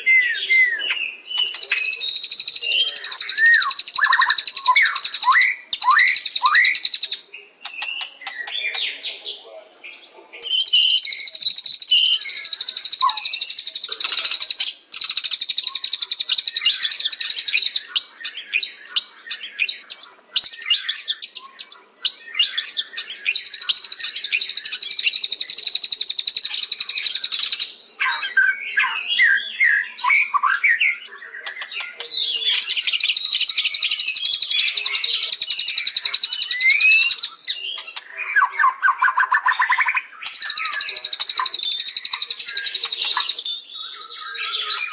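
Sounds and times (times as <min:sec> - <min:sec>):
songbird trilling and whistling: 0:00.0 - 0:44.9.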